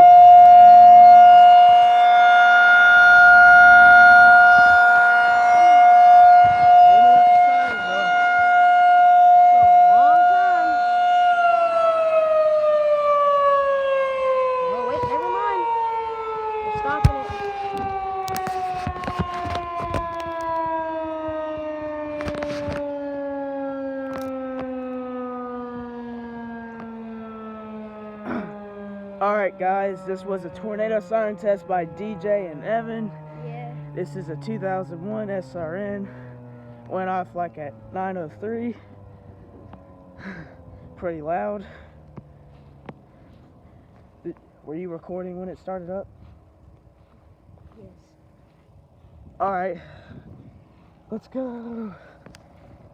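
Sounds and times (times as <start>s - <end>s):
tornado siren steady tone: 0.0s - 52.9s.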